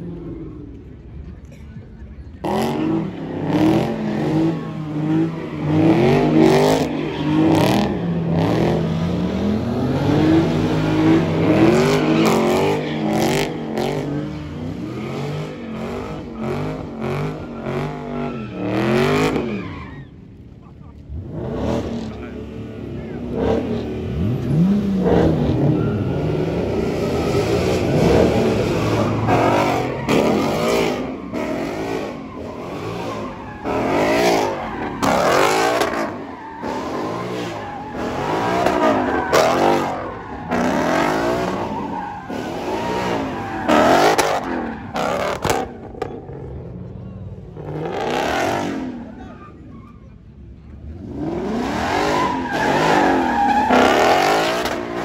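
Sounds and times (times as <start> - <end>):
car engines revving: 0.0 - 55.0
tire squeal: 2.7 - 20.5, 23.4 - 46.6, 47.6 - 50.3, 51.1 - 55.0.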